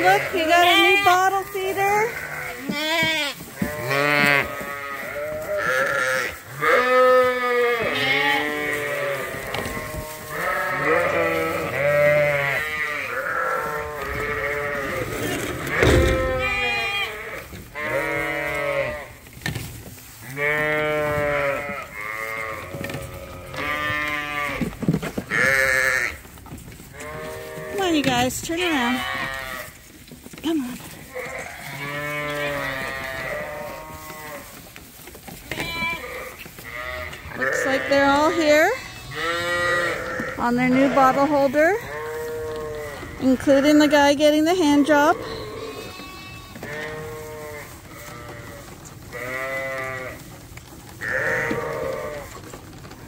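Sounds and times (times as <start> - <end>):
lambs bleating: 0.0 - 19.2, 20.1 - 26.2, 26.9 - 29.8, 30.4 - 34.7, 35.4 - 52.6.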